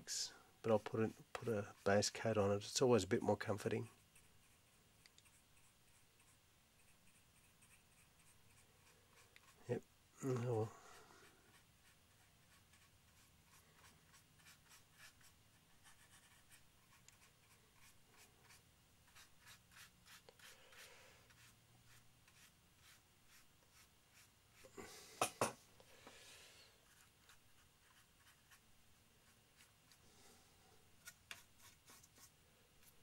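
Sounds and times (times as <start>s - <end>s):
paintbrush strokes on plastic: 3.3s - 9.8s, 10.5s - 24.7s, 26.7s - 30.3s, 31.0s - 33.0s.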